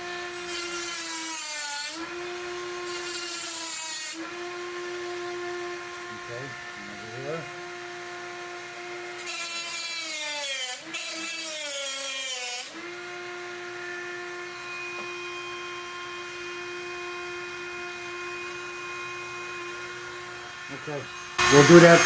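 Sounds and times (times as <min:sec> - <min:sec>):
rotary tool cutting wheel whine: 0:00.0 - 0:22.0.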